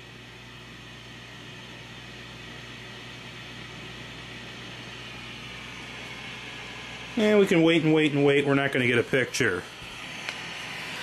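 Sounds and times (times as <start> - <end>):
television speaker hiss with low hum: 0.0 - 11.0.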